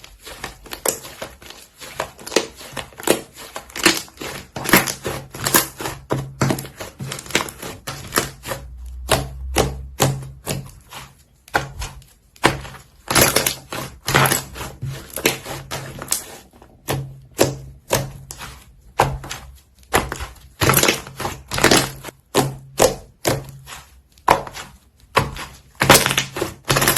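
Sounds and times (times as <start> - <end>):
slime kneaded by hand crackling: 0.0 - 26.9.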